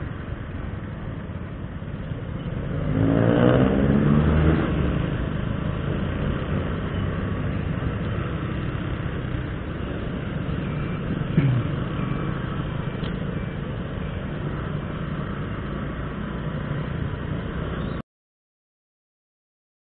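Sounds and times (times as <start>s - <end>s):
road and traffic noise: 0.0s - 18.0s.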